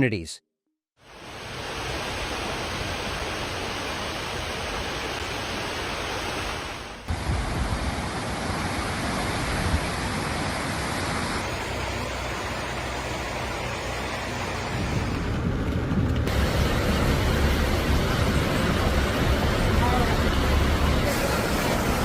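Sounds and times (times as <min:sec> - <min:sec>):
rushing water hiss: 0:01.0 - 0:15.3, 0:16.3 - 0:22.0
rushing sound with rumbling gusts: 0:01.1 - 0:22.0.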